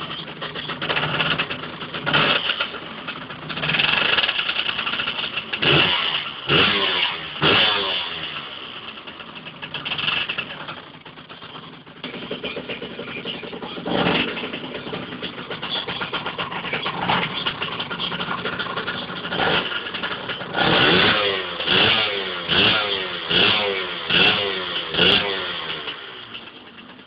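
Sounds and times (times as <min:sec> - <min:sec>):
motocross bike engine revving: 0:00.0 - 0:26.8.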